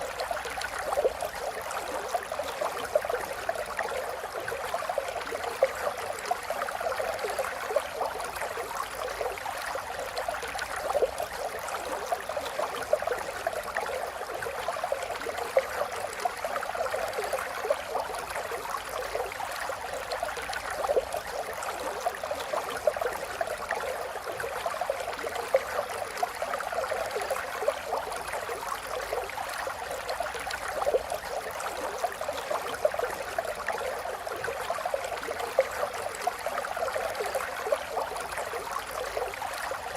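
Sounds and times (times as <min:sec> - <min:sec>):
small stream gurgling: 0:00.0 - 0:39.9.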